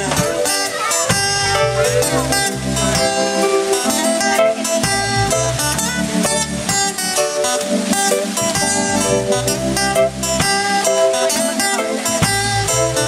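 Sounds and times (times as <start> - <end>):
live reggae rock band playing: 0.0 - 13.0.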